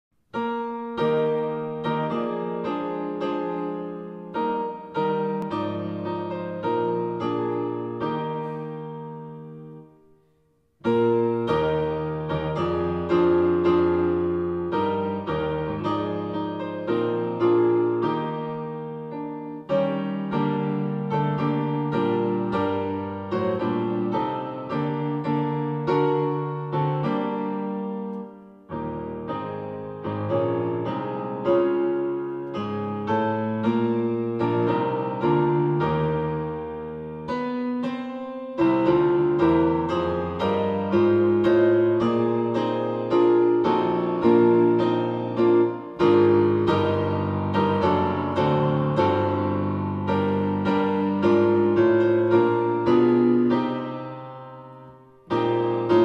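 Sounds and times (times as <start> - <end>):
solo piano playing chords: 0.2 - 56.0.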